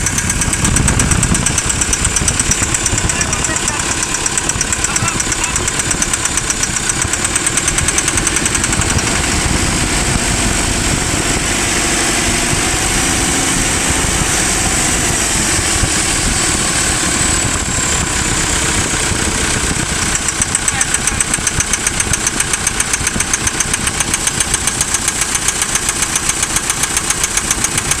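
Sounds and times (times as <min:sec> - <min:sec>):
diesel engine knocking: 0:00.0 - 0:28.0.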